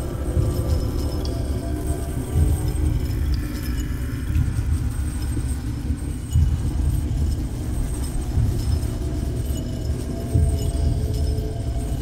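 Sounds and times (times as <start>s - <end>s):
dark ambient drone: 0.0s - 12.0s.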